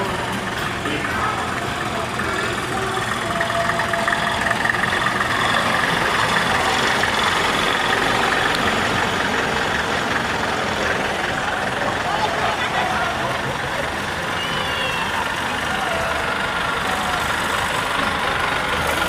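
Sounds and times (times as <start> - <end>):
vehicle engines running: 0.0 - 19.0.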